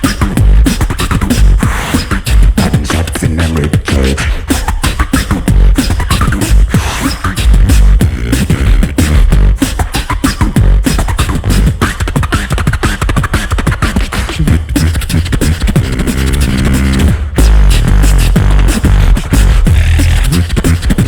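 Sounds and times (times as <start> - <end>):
beatboxing over sound system: 0.0 - 21.0
vocal bassline: 0.0 - 21.0.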